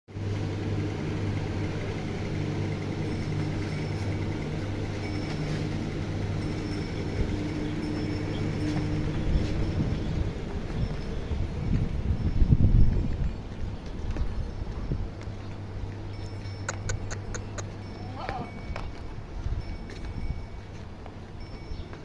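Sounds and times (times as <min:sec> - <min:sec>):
low mechanical hum: 0:00.1 - 0:22.0.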